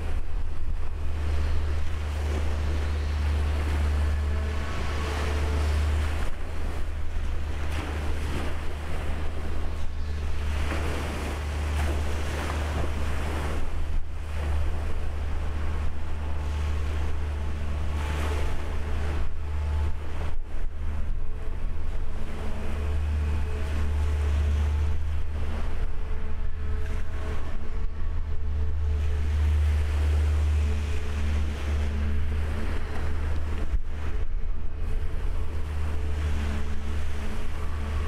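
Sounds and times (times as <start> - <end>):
machinery rumble and hum: 0.0 - 38.0
wind buffeting microphone: 0.0 - 38.0.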